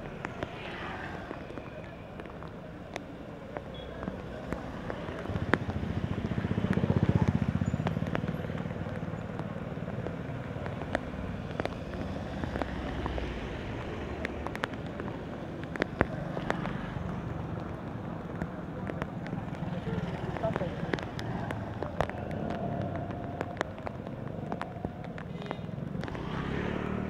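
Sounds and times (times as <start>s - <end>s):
rain and tyres hissing on wet road: 0.0s - 27.0s.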